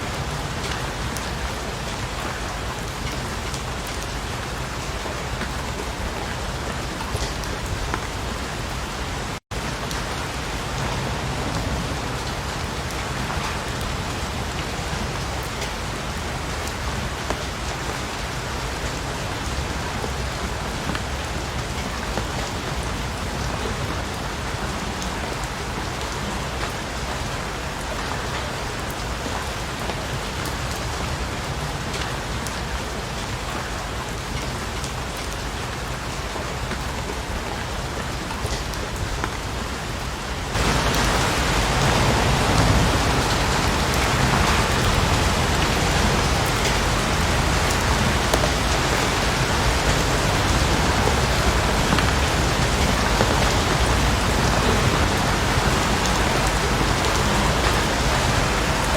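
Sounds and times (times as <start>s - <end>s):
rain falling on a surface: 0.0s - 58.9s.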